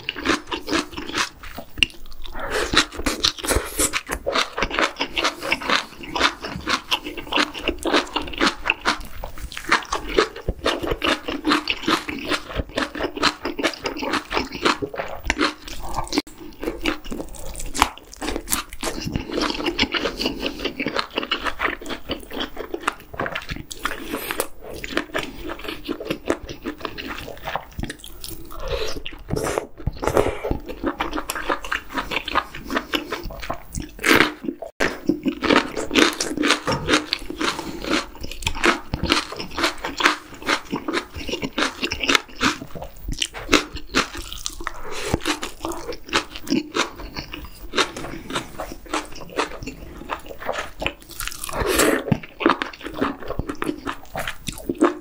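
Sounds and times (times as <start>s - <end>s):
noisy slurps: 0.0s - 55.0s
wet chewing and smacking: 0.0s - 55.0s.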